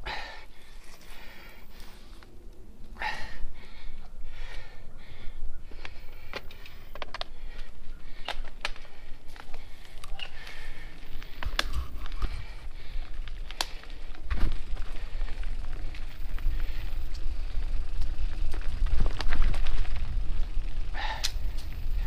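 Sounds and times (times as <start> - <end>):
bike clicks and rattles: 0.0 - 22.0
bike tyres on dirt trail: 0.0 - 22.0
wind rumbling on microphone: 0.6 - 22.0.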